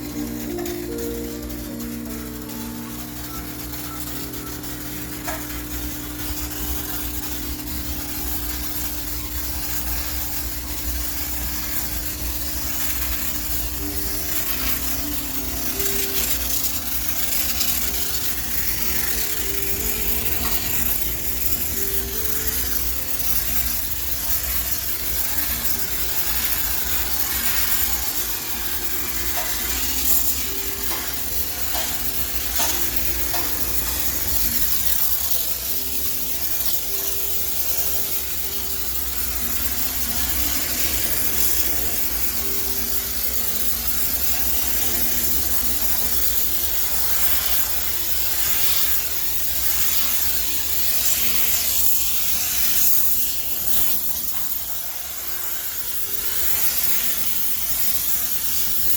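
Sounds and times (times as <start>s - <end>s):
steam cleaner hissing: 0.0s - 58.9s.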